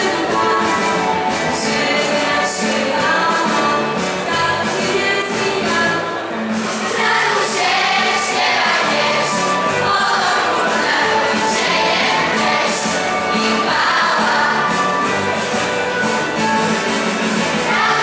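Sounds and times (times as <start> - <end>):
choir singing a carol: 0.0 - 18.0.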